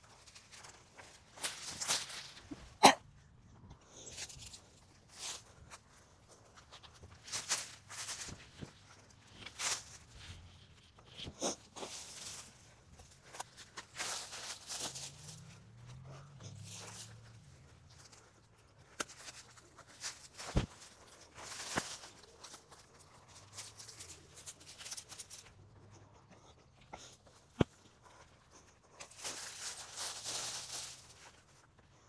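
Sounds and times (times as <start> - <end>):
rustling and handling noises: 0.0 - 32.0.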